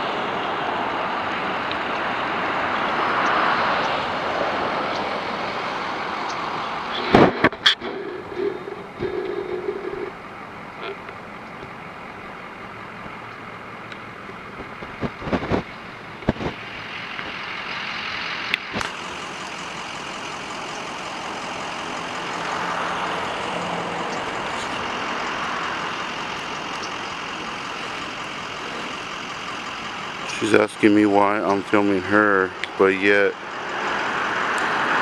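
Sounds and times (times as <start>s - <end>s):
cars passing: 0.0s - 35.0s.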